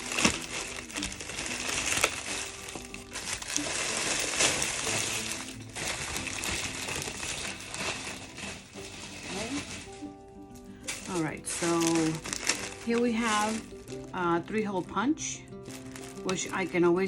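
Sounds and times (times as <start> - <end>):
packaging crinkling and rustling: 0.0 - 17.0
soft background music: 0.0 - 17.0.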